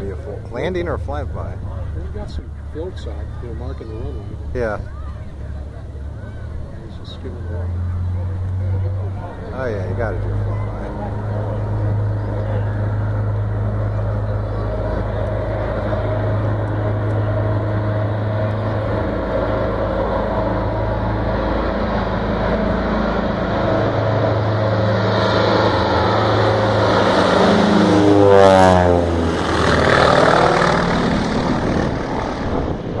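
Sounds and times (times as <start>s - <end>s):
propeller plane engines droning: 0.0s - 33.0s.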